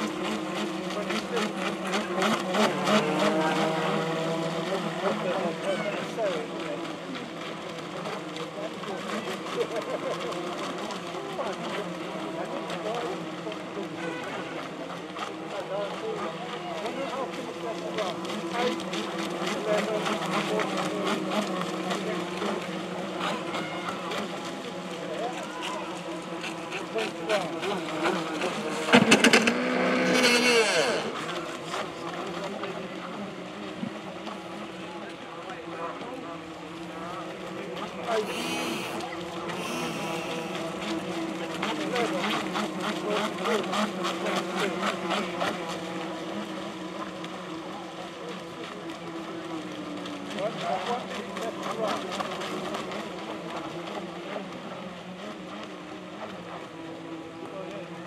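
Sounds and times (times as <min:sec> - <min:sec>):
model boat motors buzzing: 0:00.0 - 0:58.0.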